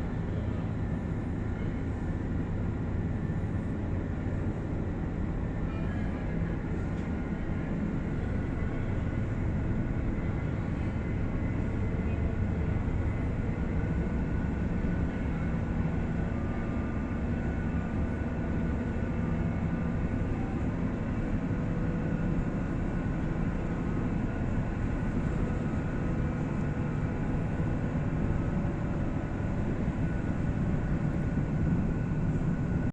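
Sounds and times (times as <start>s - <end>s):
ship engines droning: 0.0s - 32.9s.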